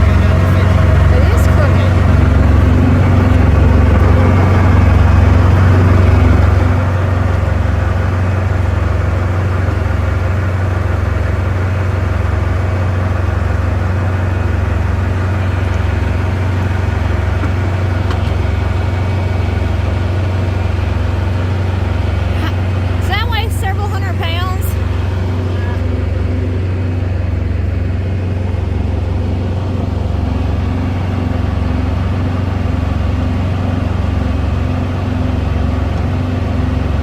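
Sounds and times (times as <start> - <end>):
engine idling with low hum: 0.0 - 37.0.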